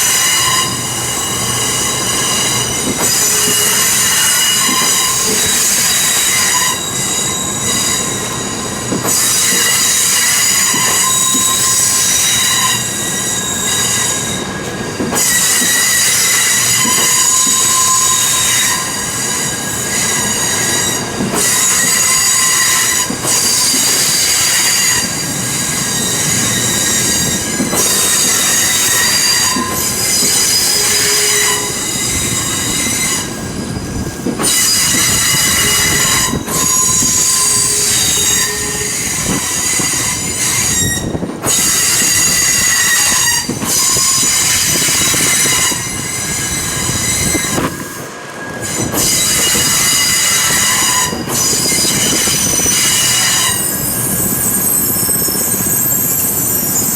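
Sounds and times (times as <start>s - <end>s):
rumble of train wheels: 0.0s - 56.9s
train wheels squealing on rails: 0.0s - 56.9s.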